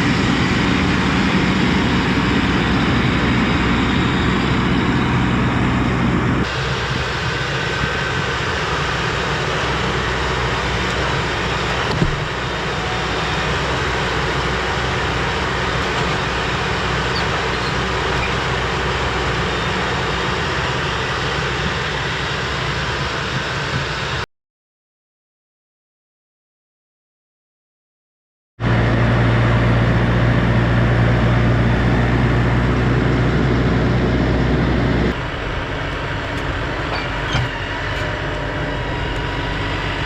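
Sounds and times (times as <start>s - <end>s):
diesel tractor engine running: 0.0s - 24.2s, 28.6s - 40.0s.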